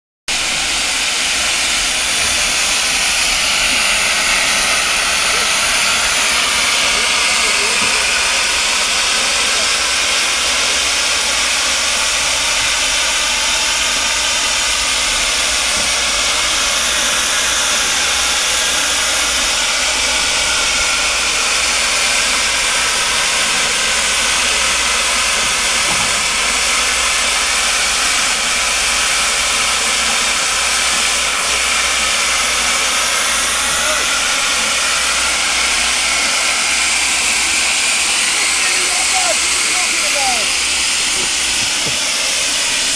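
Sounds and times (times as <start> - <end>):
steam engine hissing: 0.3 - 42.9.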